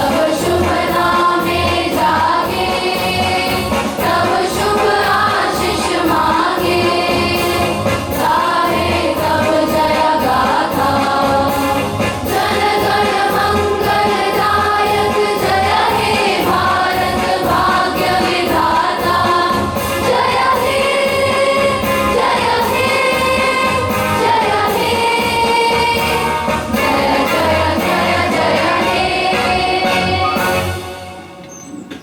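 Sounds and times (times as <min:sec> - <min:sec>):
group singing in unison: 0:00.0 - 0:31.4
instrumental accompaniment: 0:00.0 - 0:32.0.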